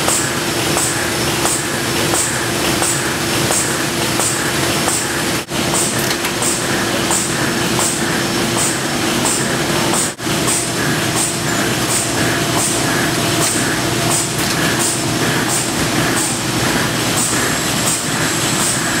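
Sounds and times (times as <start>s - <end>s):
machinery humming with cycling beat: 0.0s - 19.0s.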